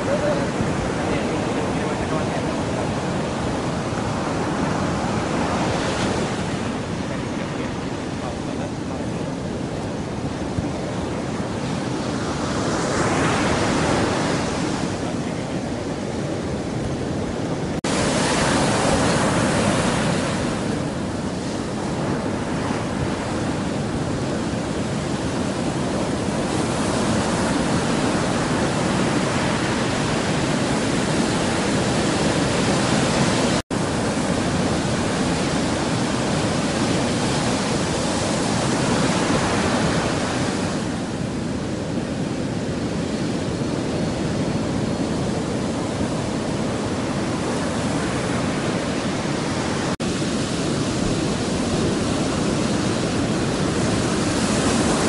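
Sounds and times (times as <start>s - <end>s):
surf breaking on beach: 0.0s - 55.0s.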